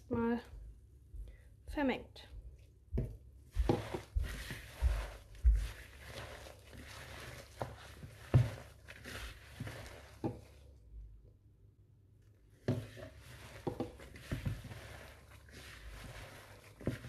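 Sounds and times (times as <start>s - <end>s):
hand kneading mixture in bowl: 0.0s - 17.0s.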